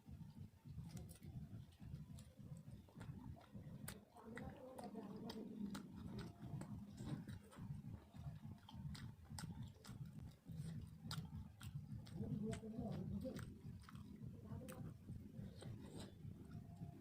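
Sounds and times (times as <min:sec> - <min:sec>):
chewing with wet clicks: 0:00.0 - 0:17.0
lip smacks: 0:00.3 - 0:17.0.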